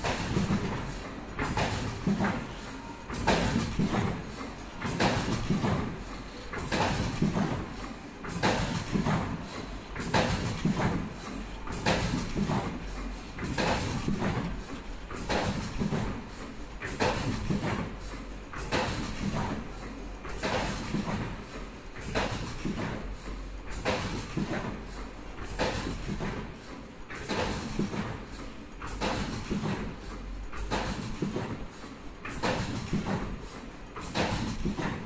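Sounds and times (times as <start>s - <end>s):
machine mechanical clatter: 0.0s - 35.0s.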